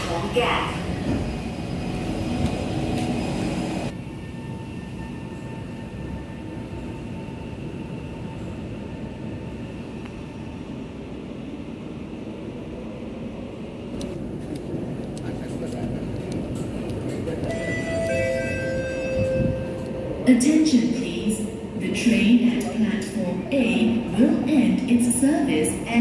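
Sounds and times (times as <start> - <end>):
stationary train hum: 0.0 - 26.0.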